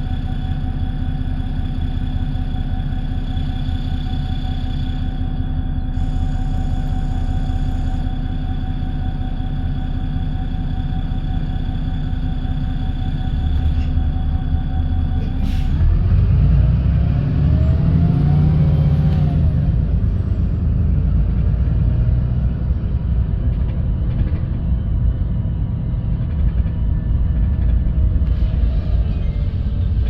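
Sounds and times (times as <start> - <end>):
bus diesel engine: 0.0 - 30.0.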